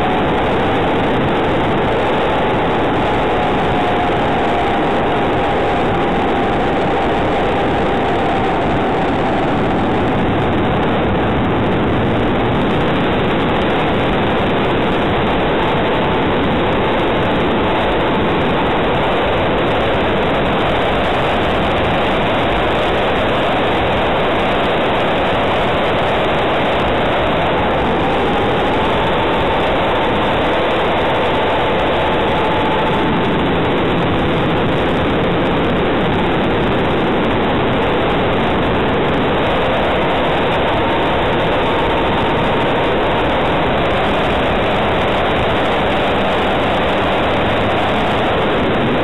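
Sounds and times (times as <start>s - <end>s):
wind and propeller noise: 0.0s - 49.0s.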